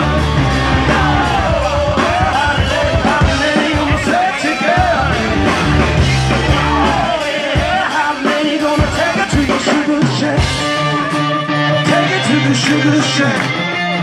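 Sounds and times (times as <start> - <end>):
distorted electric guitar: 0.0 - 14.0
drums: 0.0 - 14.0
person singing: 0.8 - 13.9.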